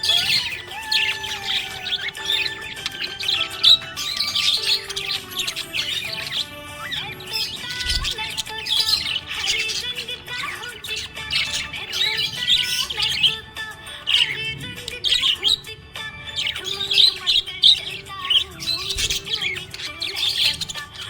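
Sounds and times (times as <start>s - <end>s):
background music: 0.0s - 21.0s
budgerigars chirping and warbling: 0.0s - 21.0s.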